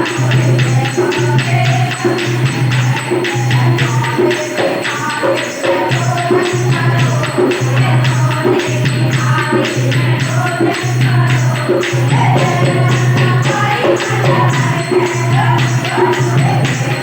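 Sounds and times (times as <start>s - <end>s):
fast percussion beat: 0.0s - 17.0s
jingling tambourine: 0.0s - 17.0s
person singing: 3.0s - 17.0s.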